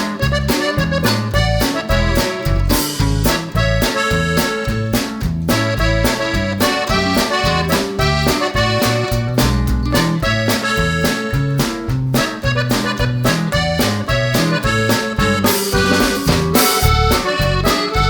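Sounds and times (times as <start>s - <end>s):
accordion music with beat: 0.0s - 18.0s.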